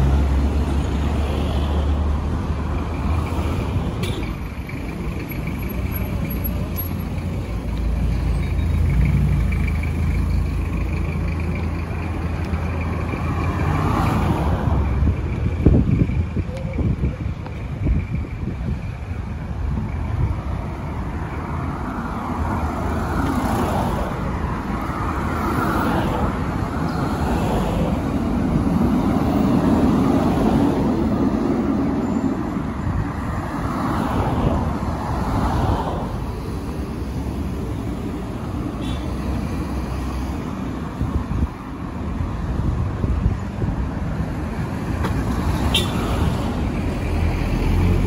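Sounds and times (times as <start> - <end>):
cars and vans driving past: 0.0 - 48.0.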